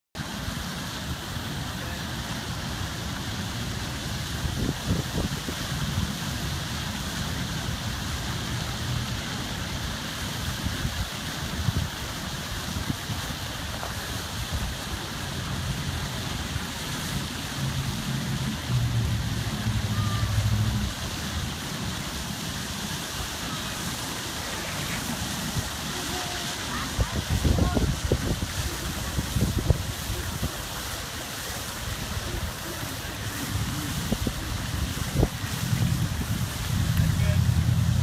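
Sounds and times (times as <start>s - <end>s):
wind rumbling on microphone: 0.5s - 38.0s.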